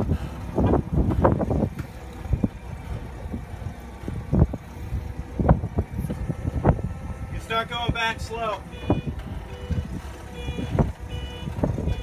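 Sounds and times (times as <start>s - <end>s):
low rumble: 0.0s - 12.0s
wind buffeting microphone: 0.0s - 12.0s.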